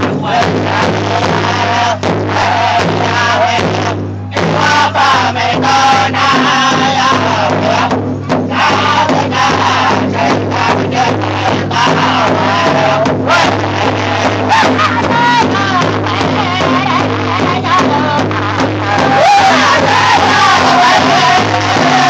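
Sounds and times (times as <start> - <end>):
large hide drum beating: 0.0 - 22.0
men singing together: 0.0 - 22.0.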